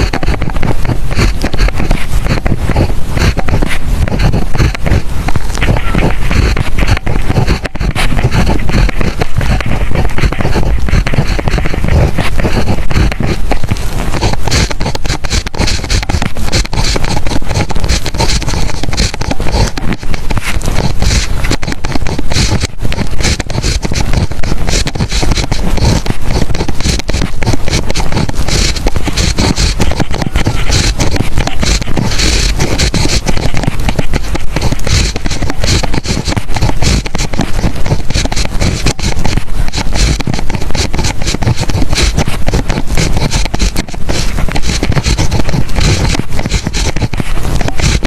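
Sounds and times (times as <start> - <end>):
pen writing on paper: 0.0 - 48.0.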